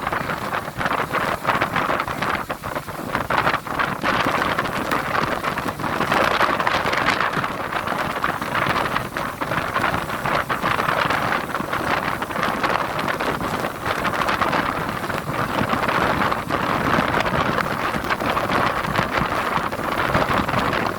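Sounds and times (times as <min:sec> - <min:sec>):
waves and surf rushing: 0:00.0 - 0:20.9
wind buffeting microphone: 0:00.0 - 0:20.9.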